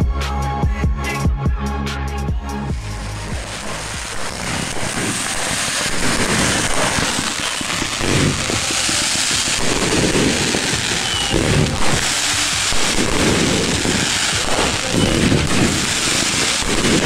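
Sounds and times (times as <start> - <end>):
fireworks booms: 2.7 - 17.0
fireworks crackling: 2.7 - 17.0.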